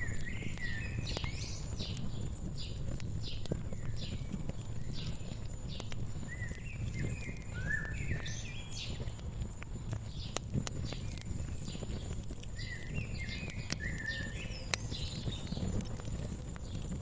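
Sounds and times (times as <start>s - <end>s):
small birds chirping: 0.0s - 17.0s
wood fire crackling: 0.0s - 17.0s.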